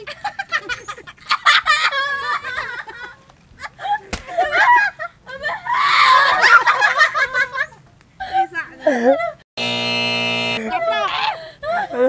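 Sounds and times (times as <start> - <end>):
women laughing and squealing: 0.0 - 9.4, 10.6 - 12.0.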